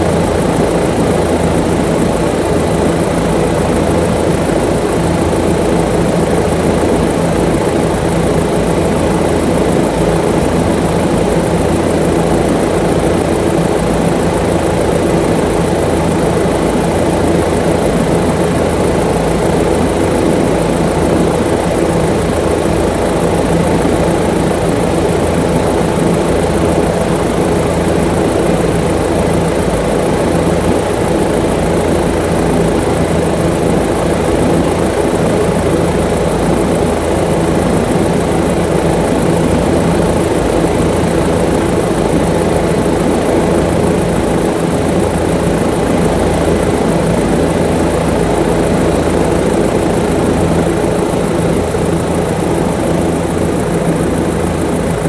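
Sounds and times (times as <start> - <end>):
aircraft engine hum: 0.0 - 55.0.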